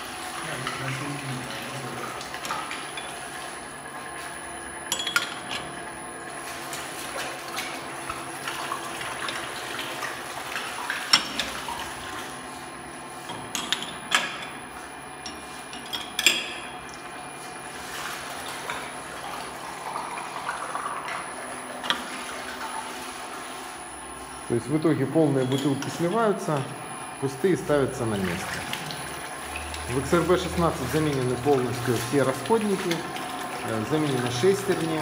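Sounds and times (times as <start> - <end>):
liquid flowing into glass bottles: 0.0 - 35.0
steady machine hum: 0.0 - 35.0.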